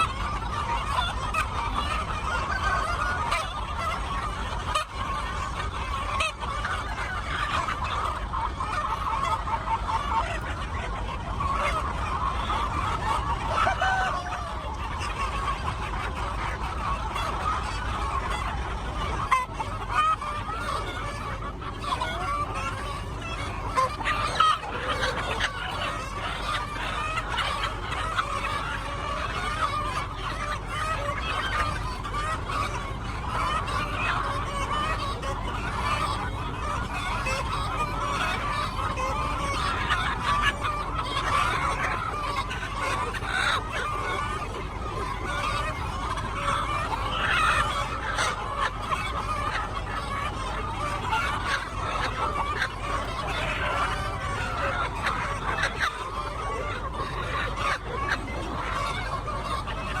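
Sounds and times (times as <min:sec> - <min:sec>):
chickens clucking: 0:00.0 - 1:00.0.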